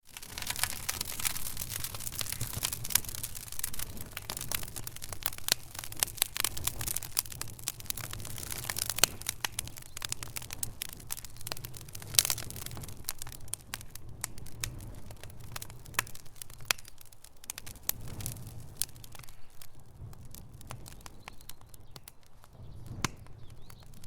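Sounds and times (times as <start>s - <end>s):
low rumble of burning: 0.0s - 24.0s
wood fire crackling: 0.0s - 24.0s.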